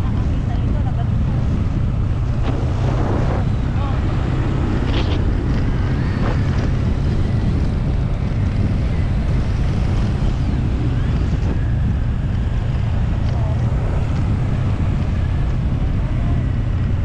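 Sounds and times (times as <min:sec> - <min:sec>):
motorcycle road noise: 0:00.0 - 0:17.0
wind buffeting microphone: 0:00.0 - 0:17.0.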